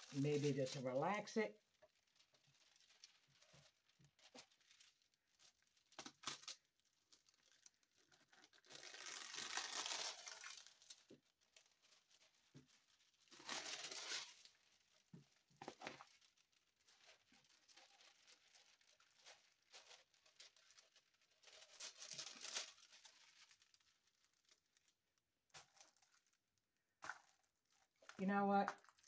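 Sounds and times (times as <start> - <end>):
plastic film crinkling: 0.0 - 29.0.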